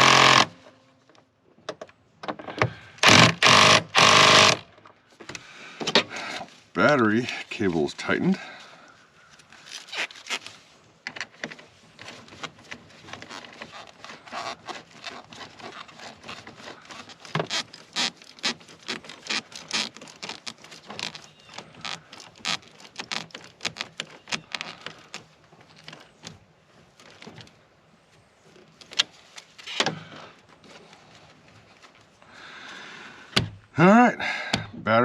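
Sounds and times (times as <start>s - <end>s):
rustling: 2.4s - 33.7s.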